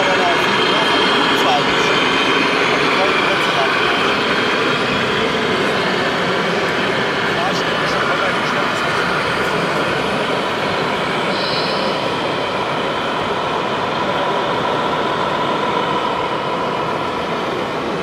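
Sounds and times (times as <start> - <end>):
din of a busy hall: 0.0 - 18.0.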